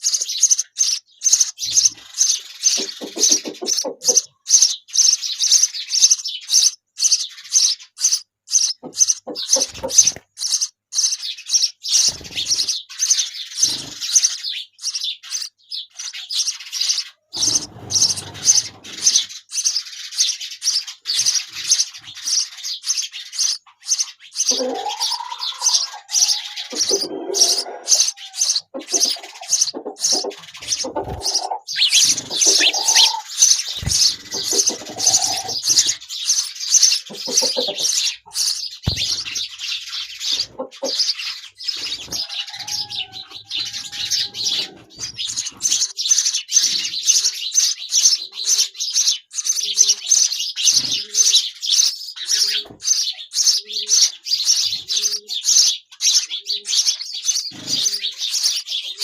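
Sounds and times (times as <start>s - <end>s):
nestlings chirping: 0.0s - 59.0s.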